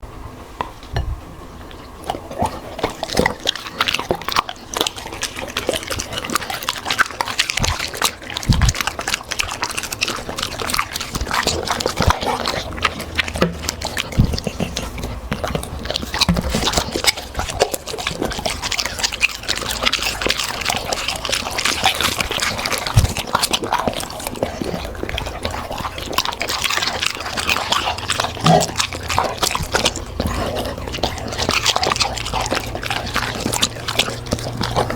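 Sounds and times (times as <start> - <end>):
dogs crunching dry food: 1.7 - 34.9.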